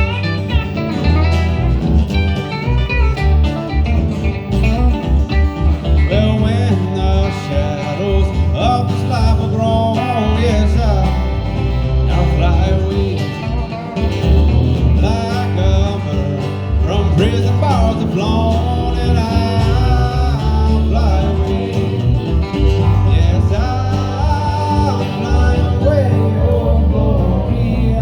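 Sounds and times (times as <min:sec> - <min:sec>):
country band playing: 0:00.0 - 0:28.0
lead guitar bending and sliding: 0:00.0 - 0:28.0
steady pulsing bass: 0:00.0 - 0:28.0.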